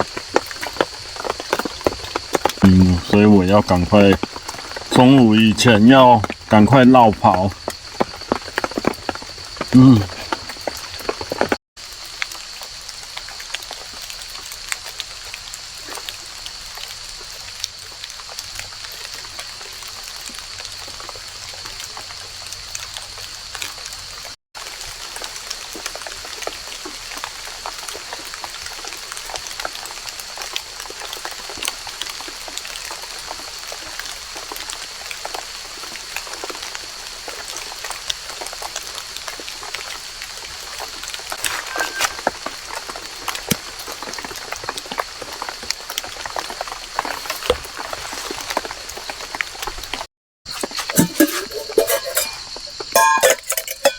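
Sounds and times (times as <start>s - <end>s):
rain pattering on leaves: 0.0s - 50.1s.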